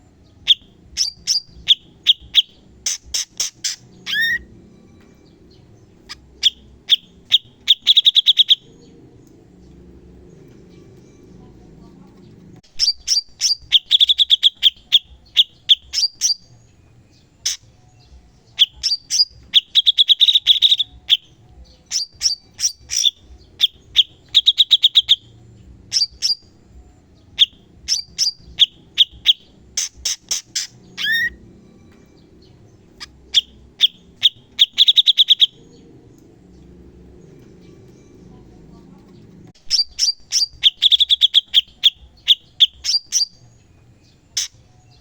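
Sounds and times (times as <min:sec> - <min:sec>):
songbird singing rapid trills: 0:00.1 - 0:45.0.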